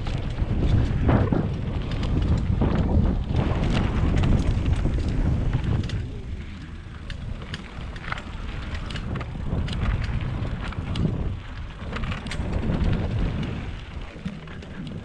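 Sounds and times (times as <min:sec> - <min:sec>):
bike clicks and rattles: 0:00.0 - 0:15.0
bike tyre rumble: 0:00.0 - 0:15.0
wind rushing over microphone: 0:00.0 - 0:15.0.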